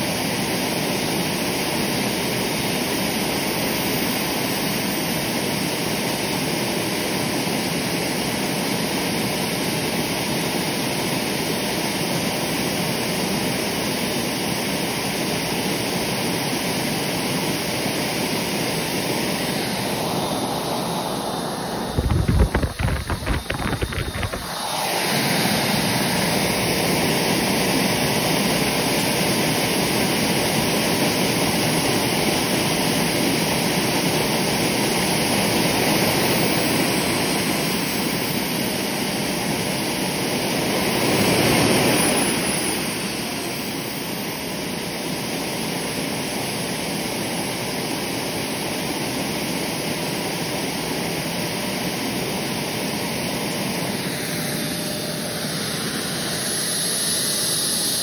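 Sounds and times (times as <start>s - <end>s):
jet turbine rushing with whine: 0.0s - 58.0s.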